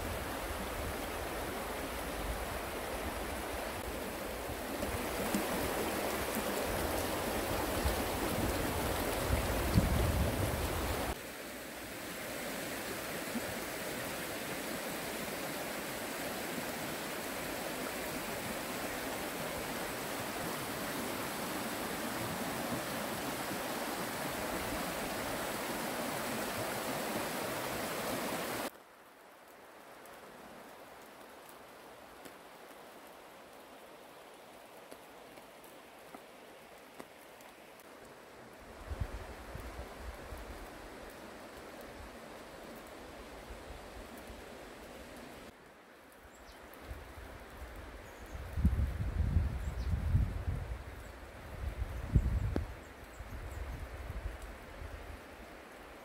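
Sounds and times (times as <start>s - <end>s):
stream running over stones: 0.0s - 49.6s
light rain hiss: 0.0s - 56.0s.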